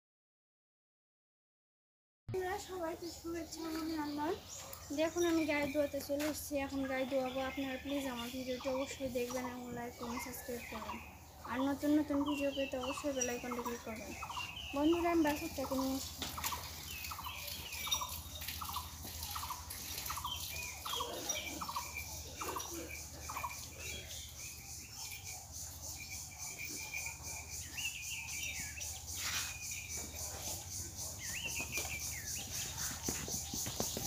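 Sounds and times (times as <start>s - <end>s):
birds calling: 2.4s - 34.0s.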